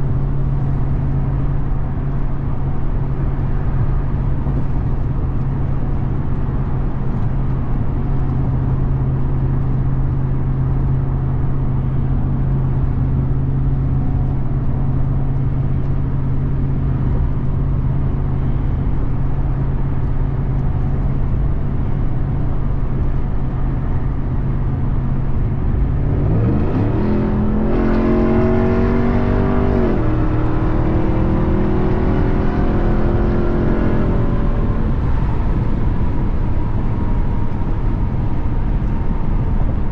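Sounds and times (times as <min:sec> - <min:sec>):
truck engine droning and accelerating: 0:00.0 - 0:39.9.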